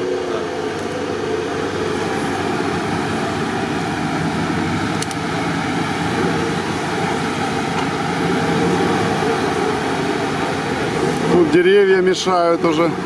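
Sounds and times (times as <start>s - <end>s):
buggy engines droning: 0.0s - 13.0s.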